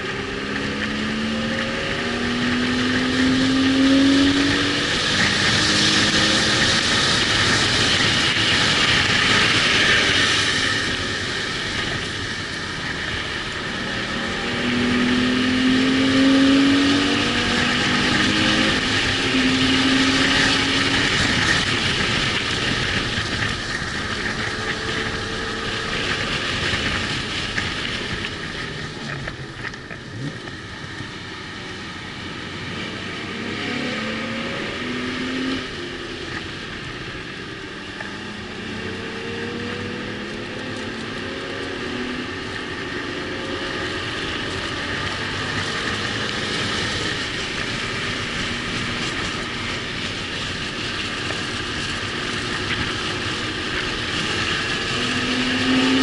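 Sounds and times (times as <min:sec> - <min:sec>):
car engine revving: 0:00.0 - 0:56.0
wind noise: 0:00.0 - 0:56.0.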